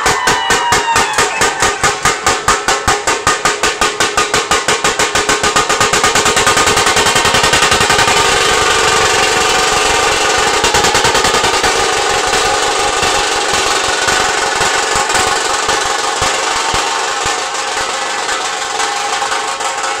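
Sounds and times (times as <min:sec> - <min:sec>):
drum ensemble beating: 0:00.0 - 0:20.0.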